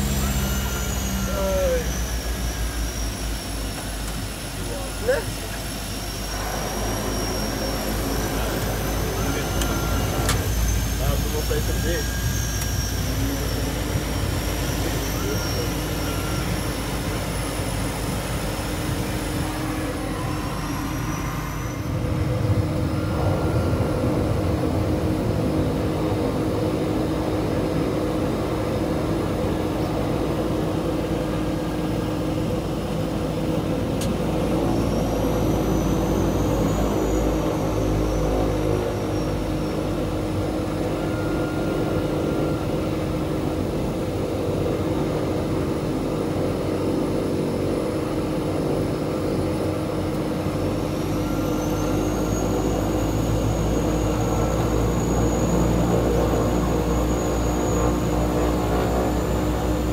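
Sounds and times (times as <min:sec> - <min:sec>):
high turbine whine: 0:00.0 - 0:59.9
propeller drone: 0:00.0 - 0:59.9.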